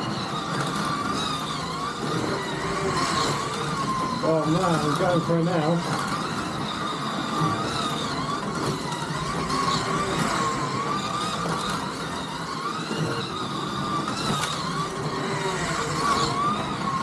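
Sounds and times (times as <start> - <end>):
electric motor whine: 0.0 - 17.0
track rattle: 0.0 - 17.0.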